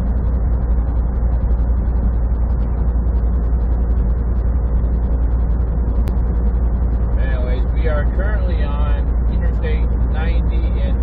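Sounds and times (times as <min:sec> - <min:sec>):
diesel engine rumble: 0:00.0 - 0:11.0
road and tyre noise: 0:00.0 - 0:11.0.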